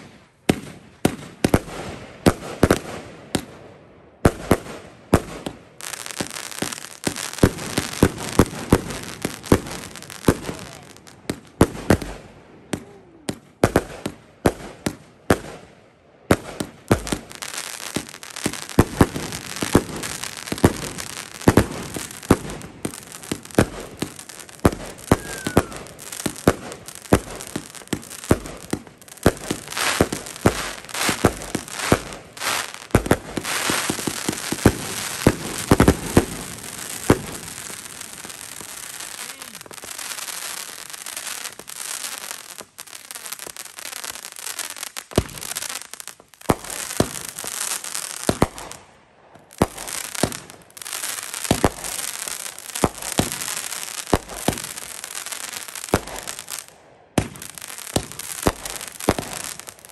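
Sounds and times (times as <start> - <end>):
firework bangs: 0.0 - 3.6, 4.2 - 15.7, 16.3 - 59.9
firework crackling hiss: 4.3 - 15.6, 16.3 - 59.9.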